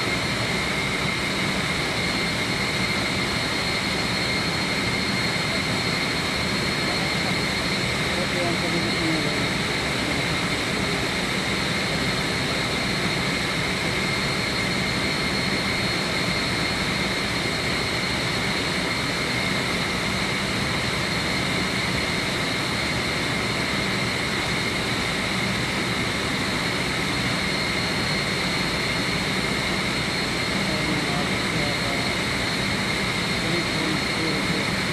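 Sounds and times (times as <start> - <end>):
high machine whine: 0.0 - 34.9.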